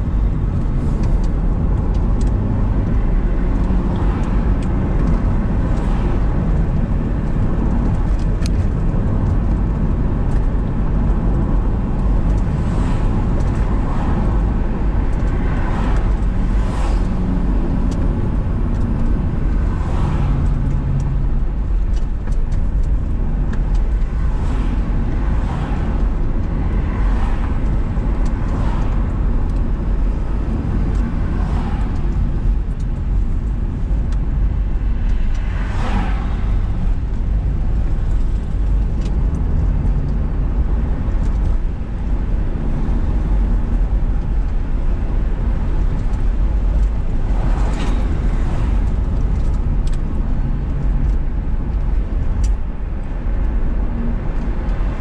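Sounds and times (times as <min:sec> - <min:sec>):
engine and tyre rumble: 0:00.0 - 0:55.0
passing vehicles whooshing: 0:00.0 - 0:55.0.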